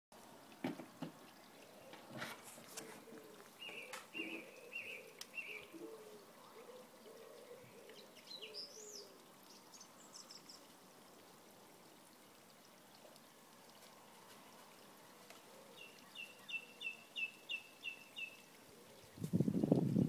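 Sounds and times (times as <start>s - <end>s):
faint birds chirping: 0.3s - 19.4s.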